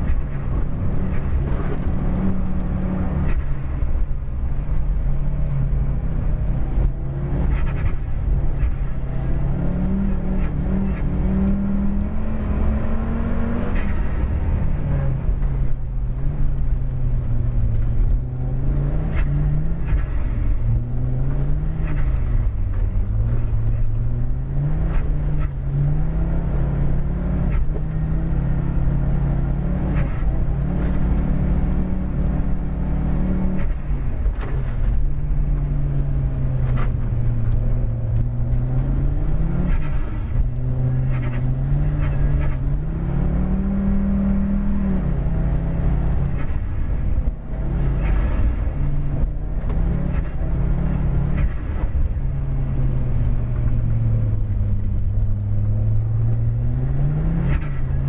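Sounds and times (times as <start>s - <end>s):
car engine revving: 0.0s - 58.0s
tyre and road rumble: 0.0s - 58.0s.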